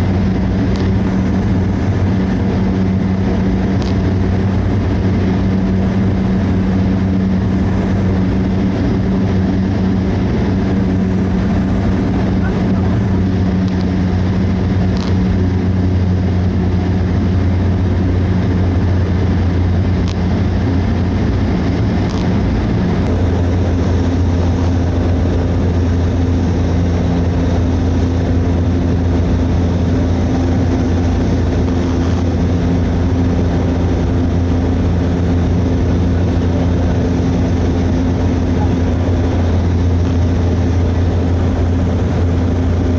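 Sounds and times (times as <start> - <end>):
turboprop engine droning: 0.0 - 42.9.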